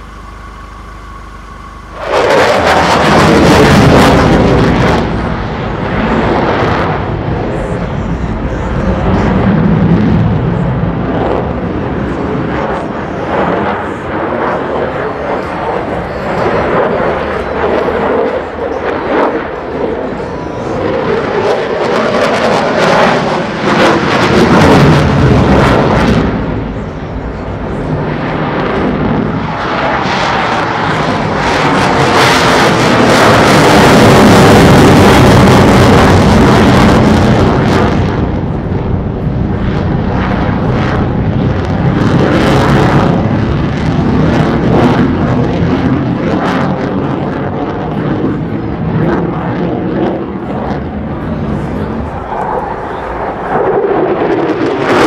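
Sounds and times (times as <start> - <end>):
crackling jet roar: 0.0 - 55.0.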